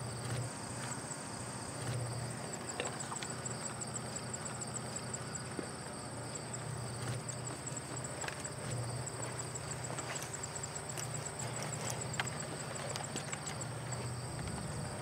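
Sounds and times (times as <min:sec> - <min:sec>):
distant diesel locomotive rumble: 0:00.0 - 0:15.0
insects trilling: 0:00.0 - 0:15.0.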